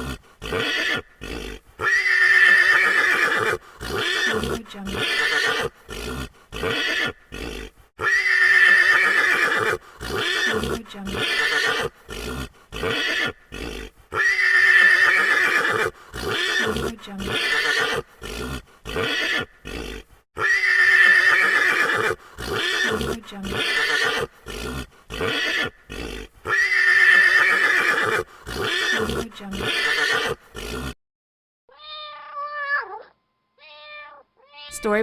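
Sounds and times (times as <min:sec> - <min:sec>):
horse neighing: 0:00.0 - 0:31.0.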